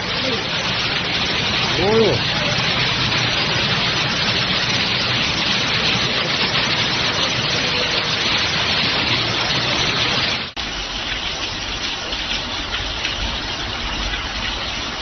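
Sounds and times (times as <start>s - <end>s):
loud rush of water: 0.0s - 15.0s
quieter rush of water: 0.0s - 15.0s.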